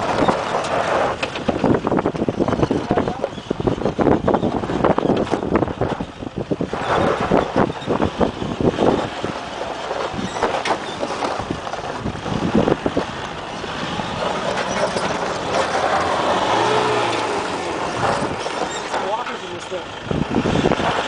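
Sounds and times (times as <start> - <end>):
tyres crunching on gravel: 0.0 - 3.4, 4.5 - 21.0
diesel engine working hard: 0.0 - 21.0.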